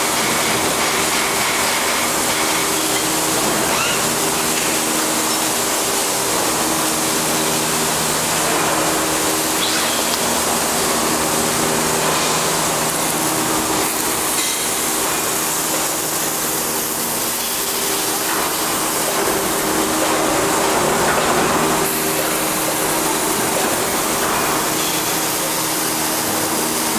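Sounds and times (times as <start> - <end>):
welding arc crackling: 0.0 - 26.9
electrical hum: 3.3 - 26.9.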